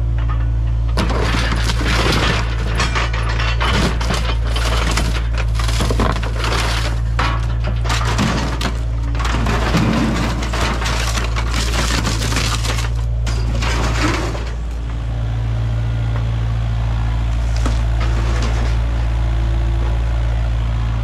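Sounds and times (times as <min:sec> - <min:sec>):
debris crunching in excavator bucket: 0:00.0 - 0:15.1, 0:17.3 - 0:19.2
diesel engine running: 0:00.0 - 0:21.0.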